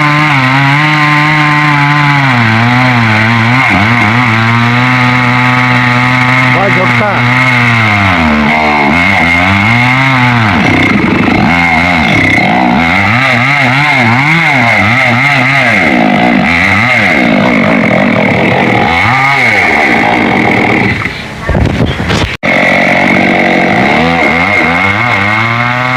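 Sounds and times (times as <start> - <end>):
chainsaw cutting wood: 0.0 - 21.2, 22.1 - 25.9.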